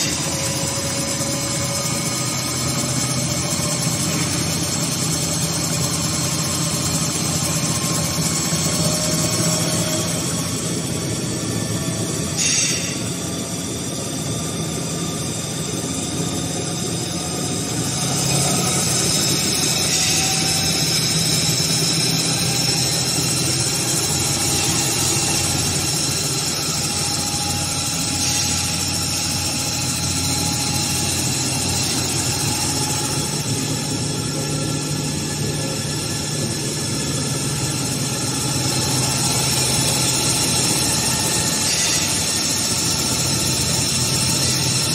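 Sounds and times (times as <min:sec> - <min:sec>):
machine rollers humming and whining: 0:00.0 - 0:44.9.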